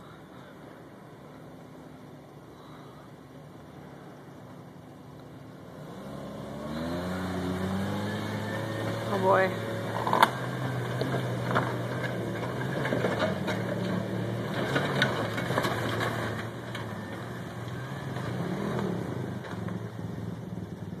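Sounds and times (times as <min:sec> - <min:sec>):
engine running at low revs: 0:01.1 - 0:21.0.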